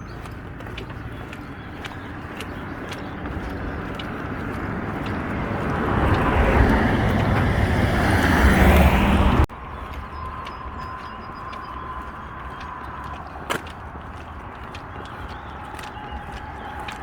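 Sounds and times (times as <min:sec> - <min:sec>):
road vehicle approaching: 0:00.0 - 0:17.0.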